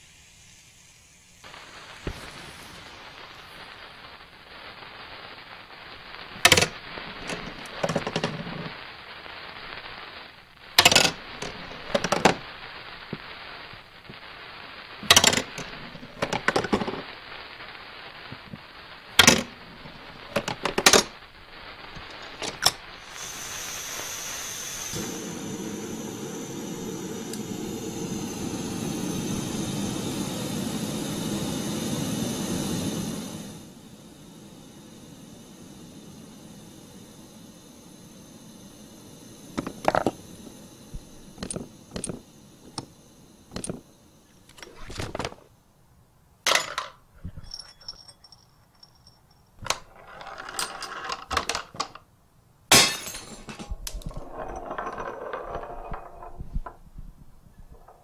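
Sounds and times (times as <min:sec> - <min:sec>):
gas burner burning steadily: 0:00.0 - 0:47.6, 0:49.5 - 0:58.0
gas stove hissing: 0:00.0 - 0:48.0, 0:49.4 - 0:58.0.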